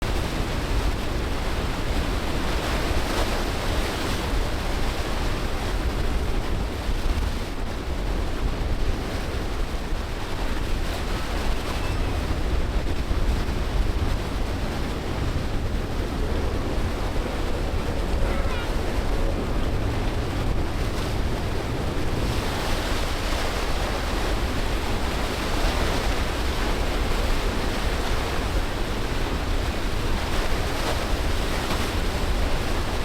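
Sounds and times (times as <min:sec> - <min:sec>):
choppy water: 0:00.0 - 0:33.0
rushing surf: 0:00.0 - 0:33.0
wind buffeting microphone: 0:00.0 - 0:33.0.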